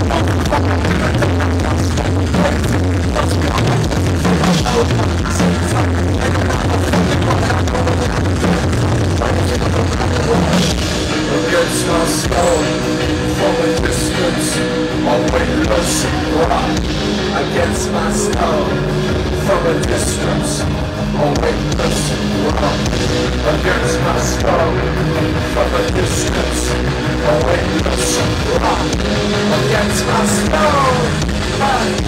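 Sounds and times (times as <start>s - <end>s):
heavy rock band playing: 0.0s - 32.0s.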